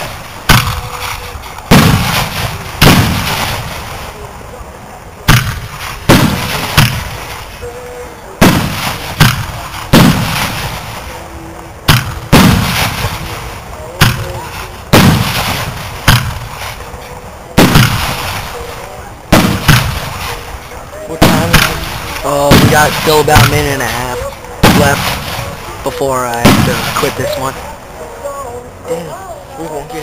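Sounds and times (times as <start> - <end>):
fireworks booming with echo: 0.0 - 4.6, 5.2 - 27.8.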